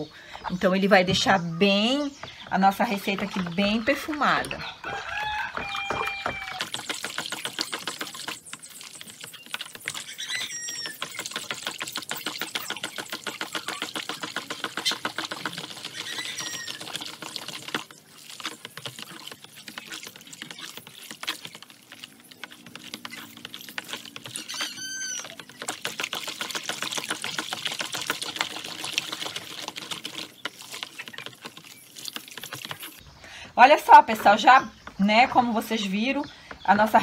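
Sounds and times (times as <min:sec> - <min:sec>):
utensil whisking in plastic basin: 0:01.7 - 0:33.0.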